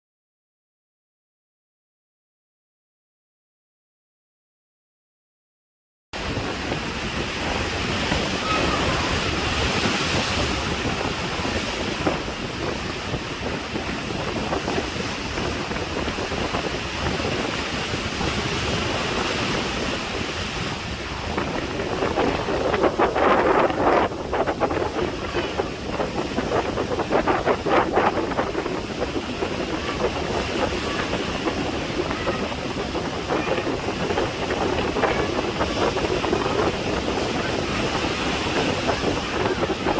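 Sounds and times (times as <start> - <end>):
sea waves breaking: 6.2 - 39.9
wind on microphone: 6.2 - 39.9.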